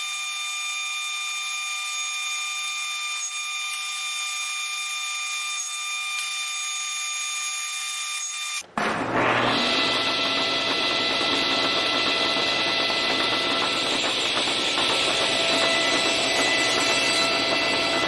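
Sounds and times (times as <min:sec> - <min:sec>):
table saw whining: 0:00.0 - 0:18.0.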